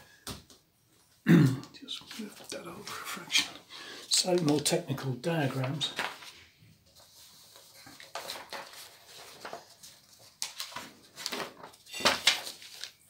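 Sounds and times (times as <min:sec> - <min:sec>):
rustling at a desk: 0:00.2 - 0:13.0.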